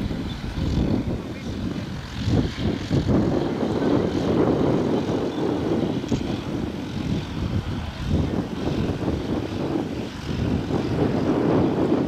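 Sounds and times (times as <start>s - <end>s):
propeller airplane flying low: 0.0s - 12.0s.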